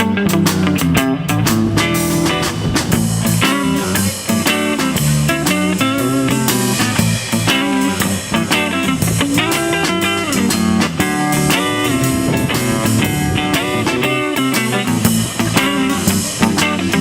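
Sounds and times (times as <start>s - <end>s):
blues band playing: 0.0s - 17.0s
electric guitar lead: 0.0s - 17.0s.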